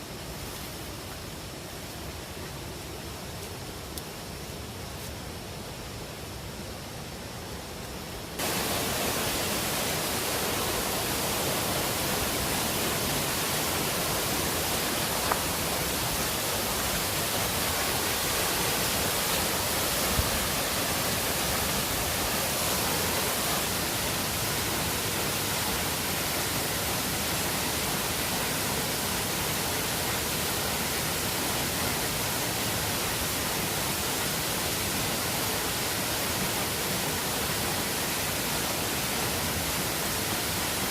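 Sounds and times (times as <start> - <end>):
waterfall rushing: 5.7 - 40.9.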